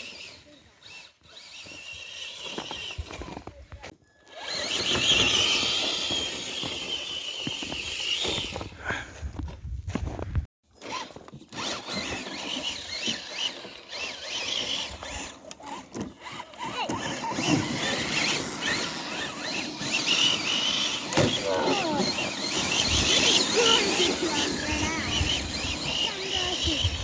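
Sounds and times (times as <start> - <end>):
toy truck motor whining: 0.0 - 8.7, 10.7 - 27.0.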